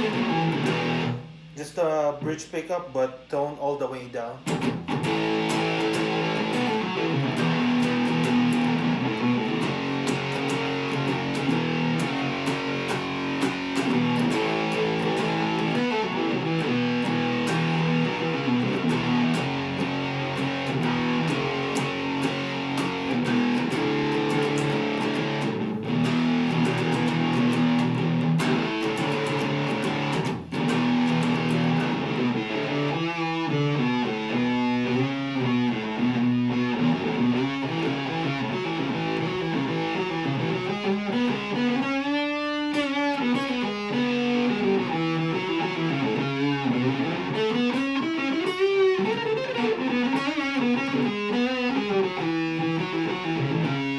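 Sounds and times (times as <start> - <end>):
electric guitar chords and notes: 0.0 - 2.4, 4.0 - 53.9.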